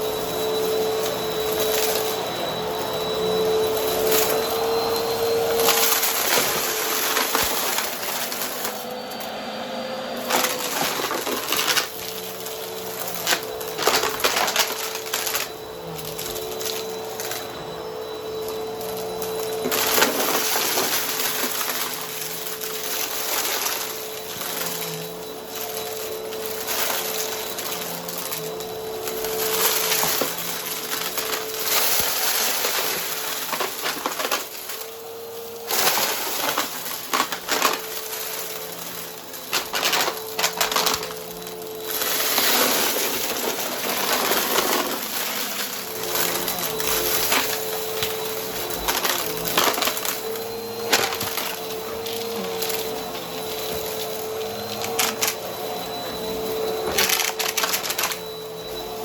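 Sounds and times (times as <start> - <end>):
vacuum cleaner motor whine: 0.0 - 59.0
debris crackling and snapping: 3.7 - 9.2, 10.2 - 17.5, 18.4 - 35.0, 35.6 - 56.1, 56.8 - 58.8.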